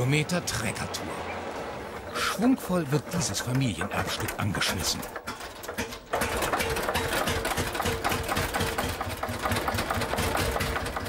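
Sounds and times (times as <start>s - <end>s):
tractor engine clattering: 1.9s - 11.0s.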